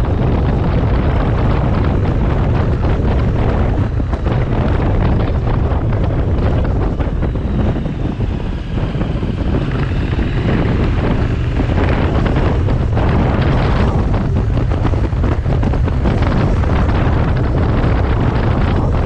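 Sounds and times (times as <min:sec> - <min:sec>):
motorcycle engine running: 0:00.0 - 0:19.0
wind buffeting on microphone: 0:00.0 - 0:19.0.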